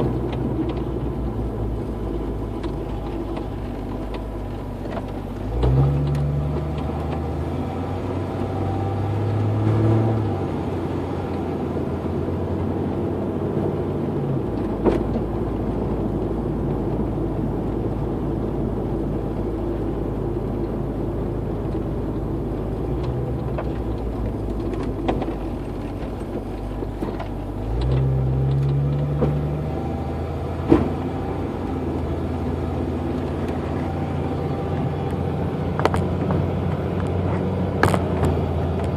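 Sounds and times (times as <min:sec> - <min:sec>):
car exhaust drone: 0:00.0 - 0:38.9.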